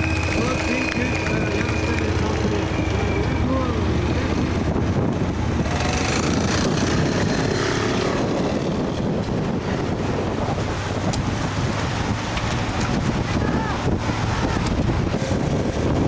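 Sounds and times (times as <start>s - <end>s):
vehicle low rumble: 0.0s - 16.0s
wind on microphone: 0.0s - 16.0s.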